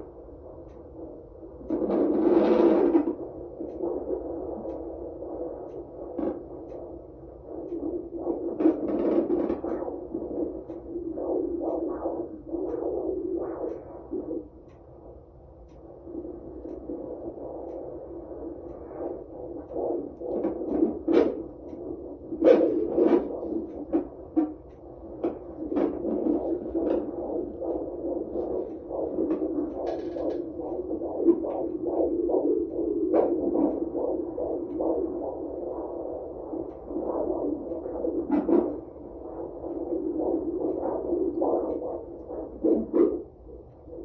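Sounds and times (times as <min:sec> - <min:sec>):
doppler heartbeat whoosh: 0:00.0 - 0:44.0
scratchy probe crackles: 0:00.0 - 0:44.0.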